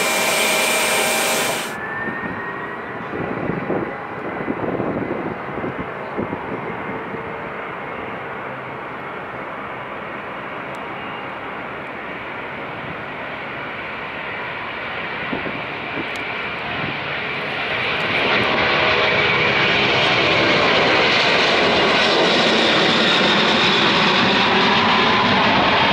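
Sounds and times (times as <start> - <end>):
jet airliner taking off: 0.0 - 25.9.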